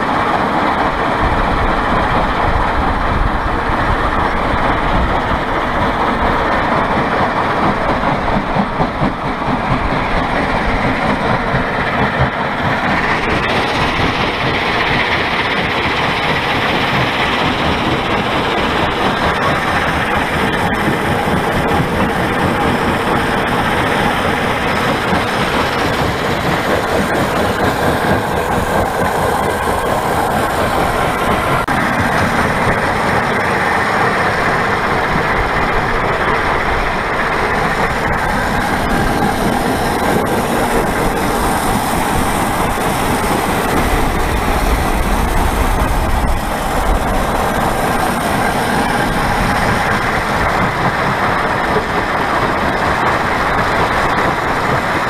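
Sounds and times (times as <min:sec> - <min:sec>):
conveyor belt carrying stone: 0:00.0 - 0:55.0.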